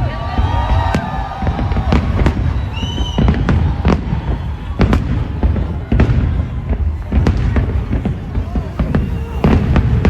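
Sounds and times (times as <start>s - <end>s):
fireworks bangs and crackles: 0.0s - 10.0s
high firework whistle: 0.0s - 10.0s.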